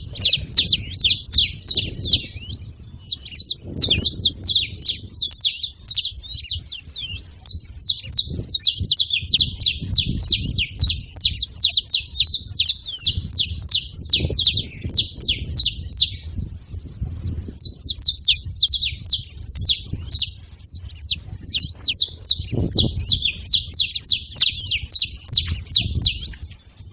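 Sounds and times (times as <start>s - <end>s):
finches chirping: 0.0s - 26.9s.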